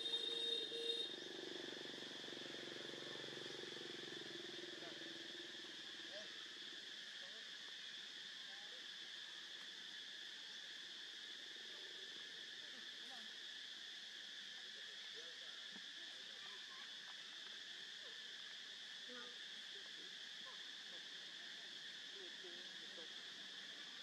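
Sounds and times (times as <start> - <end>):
insect chorus droning: 0.0 - 24.0.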